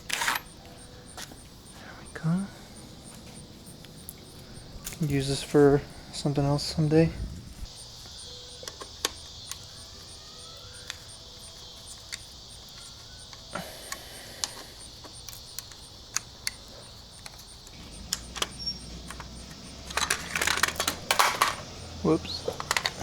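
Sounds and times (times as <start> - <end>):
hand tools clicking and tapping: 0.0 - 2.3, 2.9 - 5.3, 7.7 - 23.0
steady high hiss: 0.0 - 23.0.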